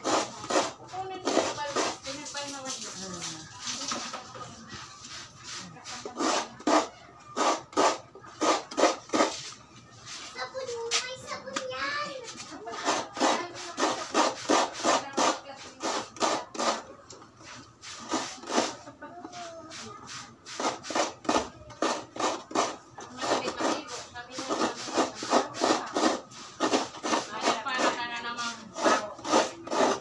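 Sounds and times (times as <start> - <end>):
coconut scraped on grater: 0.0 - 30.0.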